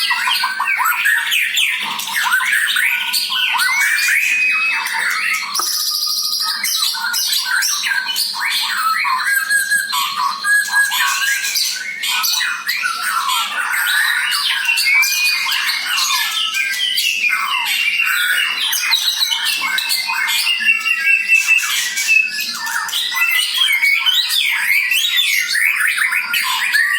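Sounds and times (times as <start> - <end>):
bird singing whistled song: 0.0 - 26.9.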